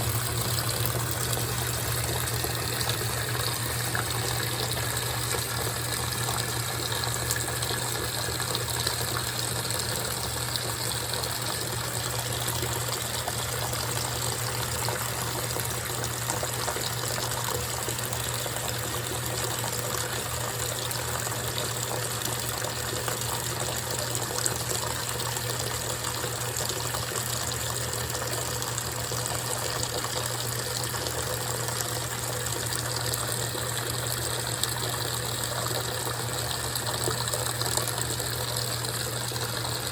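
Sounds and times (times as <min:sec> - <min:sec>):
washing machine low hum: 0:00.0 - 0:39.9.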